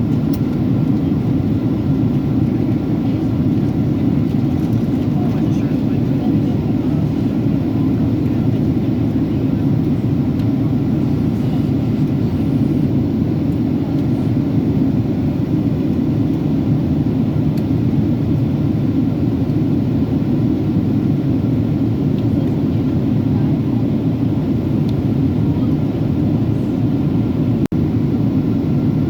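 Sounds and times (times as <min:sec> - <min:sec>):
airliner cabin noise: 0:00.0 - 0:29.0.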